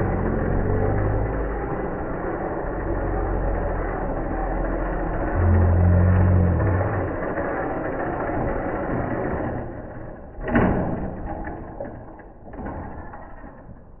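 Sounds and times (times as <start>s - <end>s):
rc truck motor: 0.0s - 13.7s.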